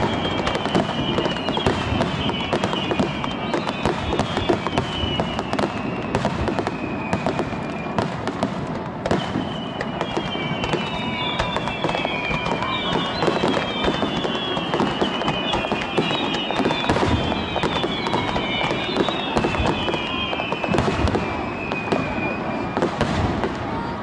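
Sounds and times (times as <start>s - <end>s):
firework whistles falling in pitch: 0.0s - 23.6s
fireworks cracking and banging: 0.0s - 24.0s.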